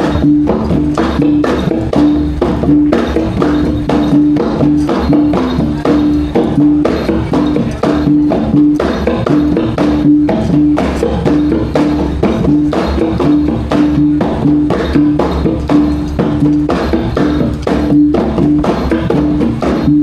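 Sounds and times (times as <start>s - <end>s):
drums and gongs rhythm: 0.0s - 20.0s.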